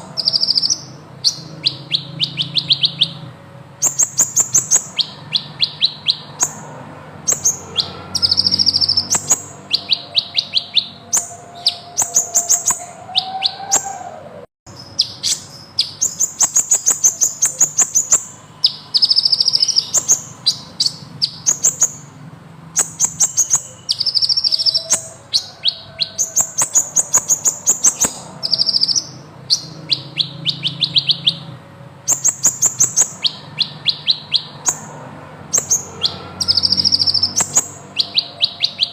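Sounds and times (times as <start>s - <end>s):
bird singing high trills: 0.0s - 38.9s.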